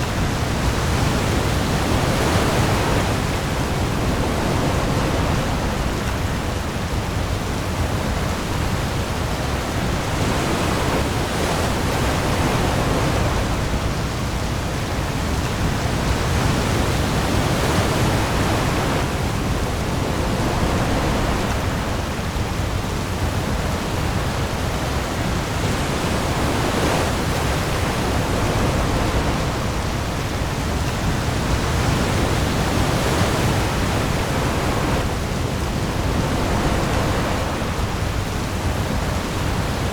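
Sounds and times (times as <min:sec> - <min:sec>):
heavy rain on sea: 0:00.0 - 0:39.9
waves: 0:00.0 - 0:39.9.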